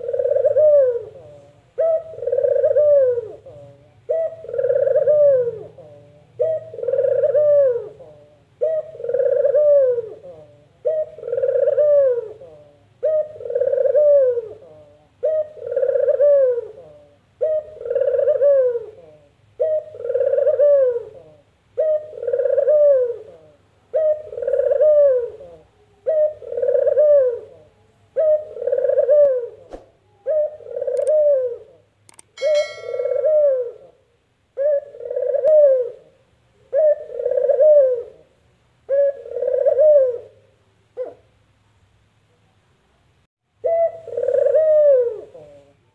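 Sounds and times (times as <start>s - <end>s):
dove cooing: 0.0s - 34.0s, 34.6s - 41.3s, 43.6s - 45.9s.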